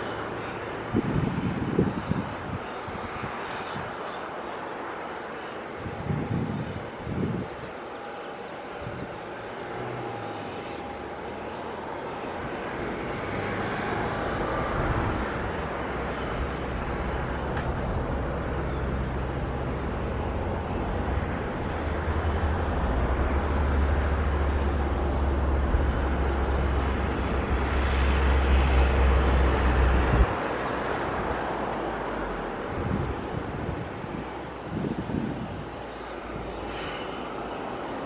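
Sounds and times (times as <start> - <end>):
jet airliner rumble and hiss: 0.0 - 38.0.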